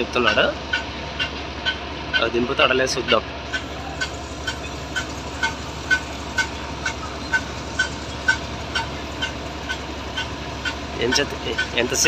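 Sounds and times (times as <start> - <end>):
rumble of engines and traffic: 0.0 - 12.0.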